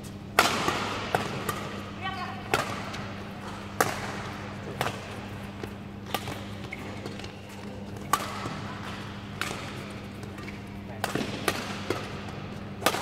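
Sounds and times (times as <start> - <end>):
rackets hitting shuttlecock: 0.3 - 13.0.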